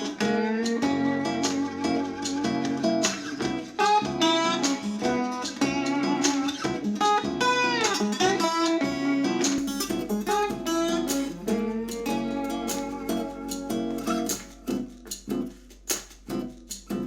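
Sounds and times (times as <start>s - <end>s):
acoustic guitar music on speaker: 0.0s - 17.0s.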